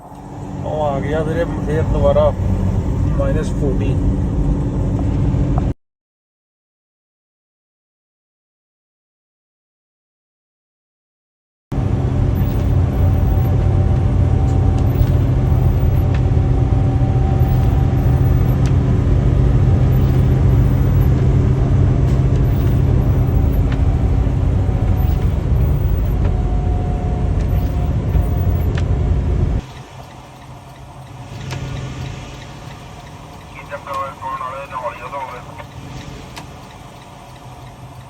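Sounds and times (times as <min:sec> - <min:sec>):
truck engine rumble in cab: 0:00.0 - 0:05.7, 0:11.7 - 0:38.0.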